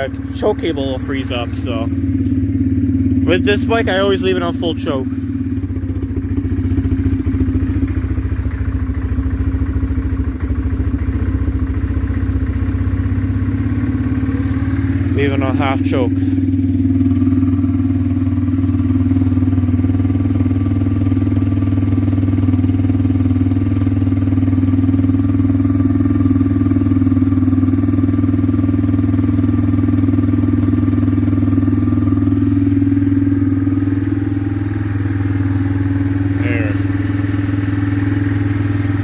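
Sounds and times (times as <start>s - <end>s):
atv engine idling: 0.0s - 39.0s.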